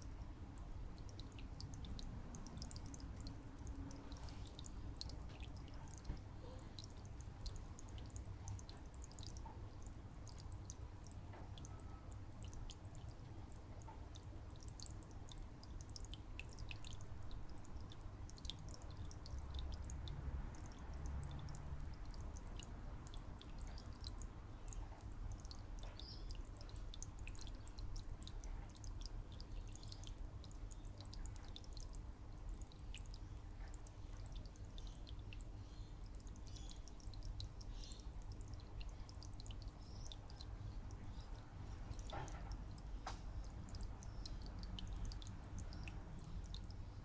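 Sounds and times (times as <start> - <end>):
faint steady hum: 0.0 - 47.0
water trickling and dripping: 0.0 - 47.0.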